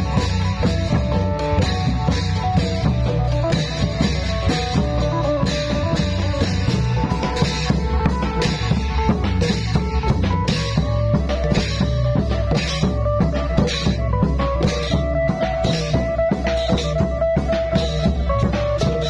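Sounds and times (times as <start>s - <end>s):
driving drums: 0.0s - 19.0s.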